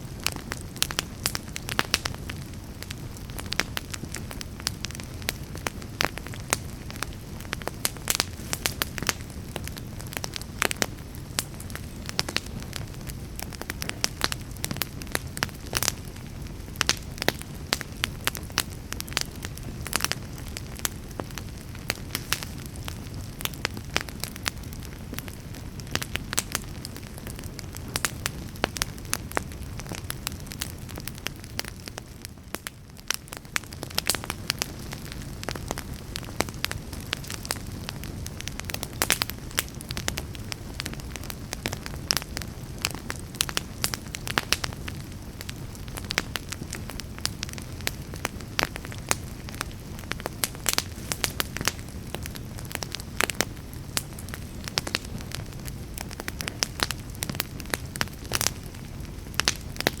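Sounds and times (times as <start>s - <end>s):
fire crackling and popping: 0.0s - 60.0s
low rumble of flames: 0.0s - 60.0s.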